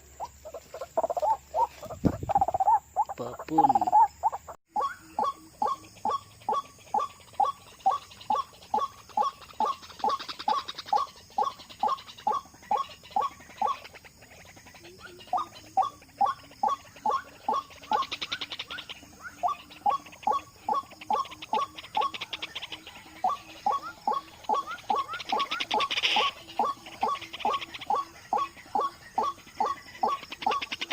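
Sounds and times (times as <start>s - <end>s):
waterhen kwak calls: 0.0s - 30.9s.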